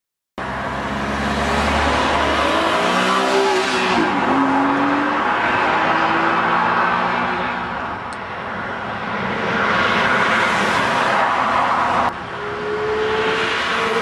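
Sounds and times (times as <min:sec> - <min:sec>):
road noise: 0:00.4 - 0:14.0.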